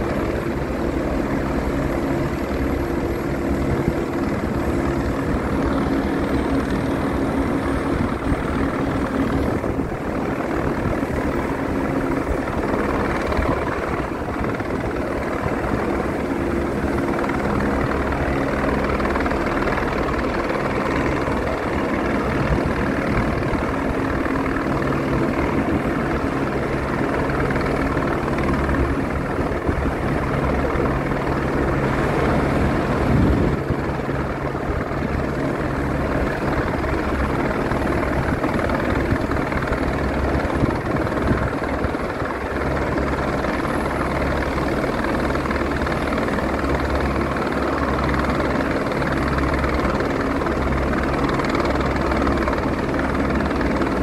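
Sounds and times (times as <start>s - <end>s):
helicopters droning overhead: 0.0s - 54.0s.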